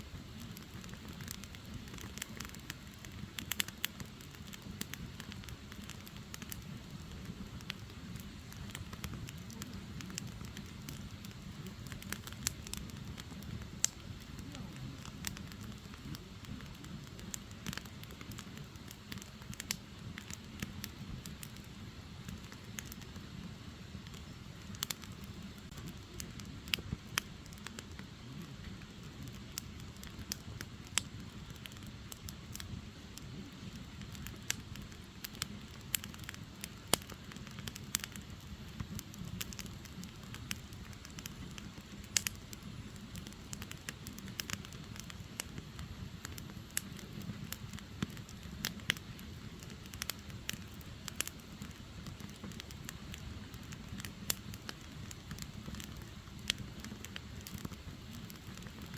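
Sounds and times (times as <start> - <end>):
firewood crackles and pops: 0.0 - 58.9
low rumble of fire: 0.0 - 58.9.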